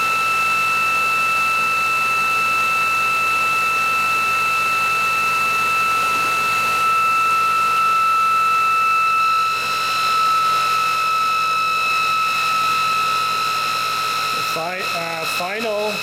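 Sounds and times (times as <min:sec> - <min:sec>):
generator high-pitched whine: 0:00.0 - 0:16.0.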